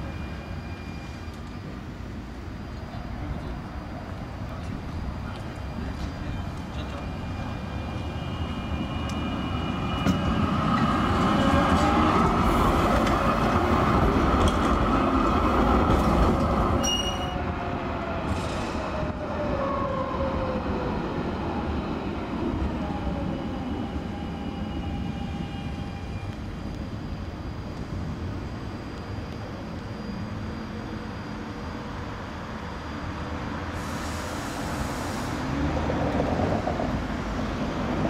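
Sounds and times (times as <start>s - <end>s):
tram motor whine: 0.0s - 38.0s
tram wheels rumbling on rail: 0.0s - 38.0s.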